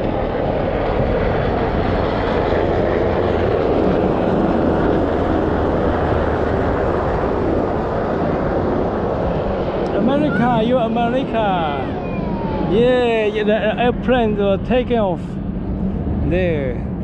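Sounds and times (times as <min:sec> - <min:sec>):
helicopter flying by: 0:00.0 - 0:17.0.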